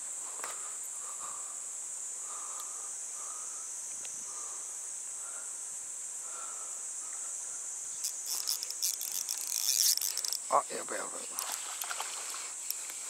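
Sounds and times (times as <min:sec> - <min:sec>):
faint lower insect calls: 0:00.0 - 0:13.0
high-pitched insect chorus: 0:00.0 - 0:13.0.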